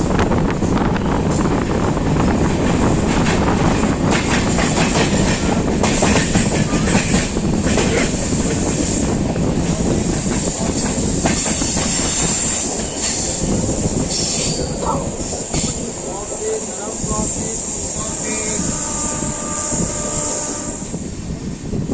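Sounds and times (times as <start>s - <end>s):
train wheels clattering over joints: 0.0s - 20.3s
train rumble: 0.0s - 21.9s.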